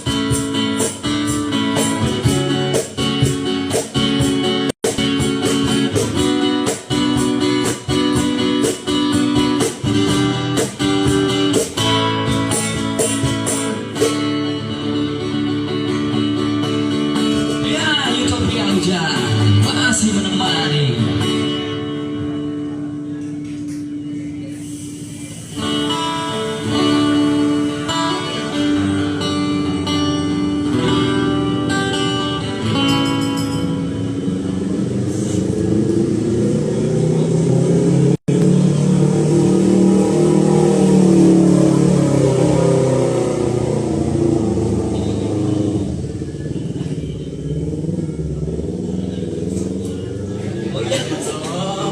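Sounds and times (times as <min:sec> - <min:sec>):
acoustic guitar chords: 0:00.0 - 0:51.9
vehicle engine humming: 0:00.0 - 0:51.9.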